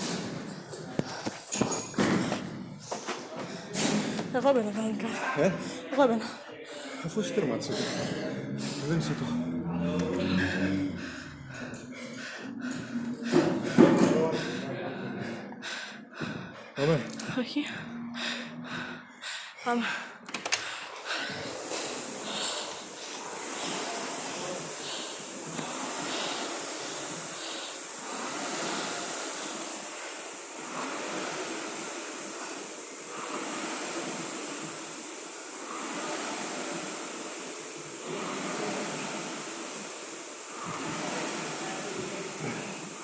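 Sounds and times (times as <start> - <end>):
rowing machine fan whooshing: 0.0 - 6.0, 7.0 - 43.0.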